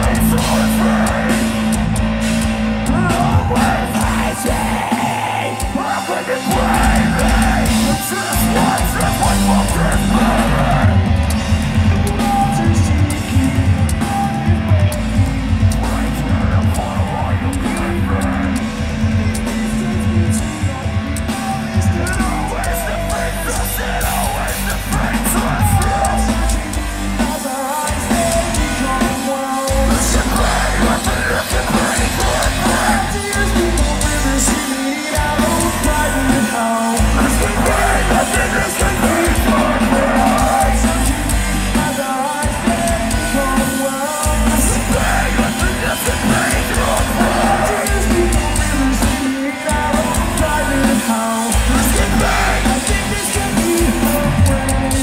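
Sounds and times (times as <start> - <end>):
bass: 0.0 - 55.0
drums: 0.0 - 55.0
loud distorted guitars: 0.0 - 55.0
vocalist singing and screaming: 0.0 - 55.0.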